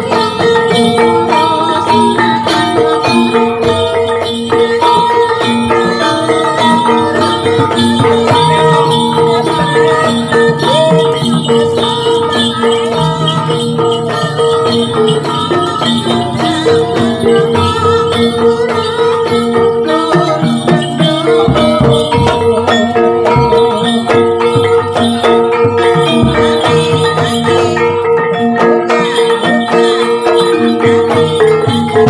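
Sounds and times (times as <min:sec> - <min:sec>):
gong-chime and metallophone notes: 0:00.0 - 0:32.0
jingling rattles: 0:00.0 - 0:32.0.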